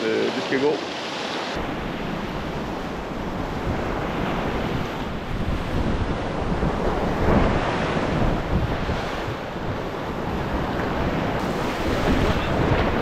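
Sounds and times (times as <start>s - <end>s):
waves breaking on beach: 0.0s - 13.0s
wind rumble on microphone: 1.6s - 13.0s.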